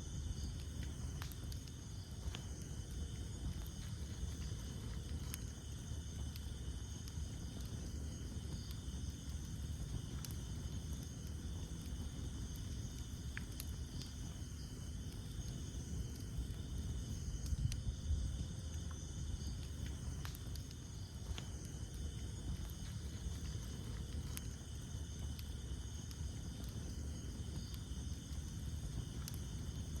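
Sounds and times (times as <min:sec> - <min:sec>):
campfire crackling and popping: 0:00.0 - 0:30.0
insects trilling: 0:00.0 - 0:30.0.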